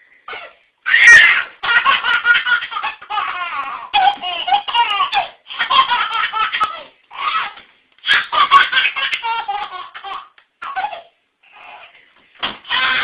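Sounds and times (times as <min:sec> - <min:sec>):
baby laughing: 0:00.3 - 0:12.0, 0:12.6 - 0:13.0.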